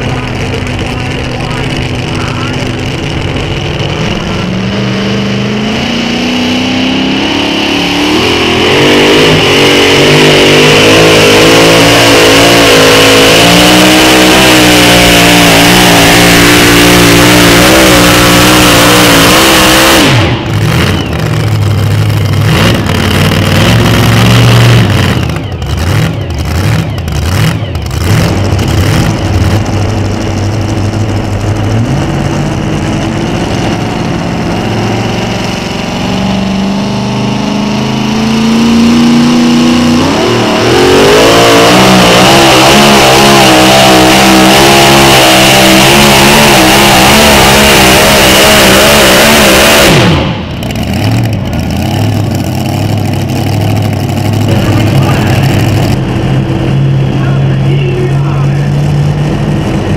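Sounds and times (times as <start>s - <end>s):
truck engine at full throttle: 0.0s - 59.9s.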